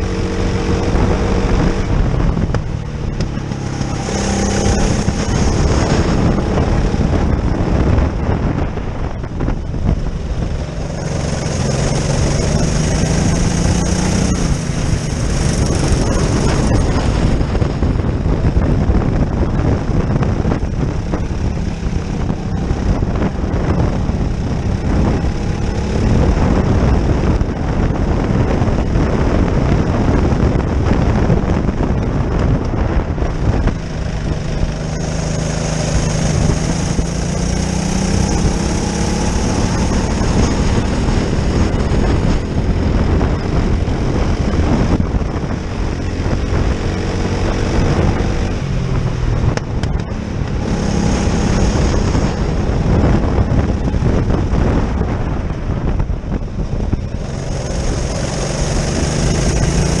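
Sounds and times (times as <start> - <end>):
go-kart engine racing: 0.0 - 60.0
wind rush on microphone: 0.0 - 60.0.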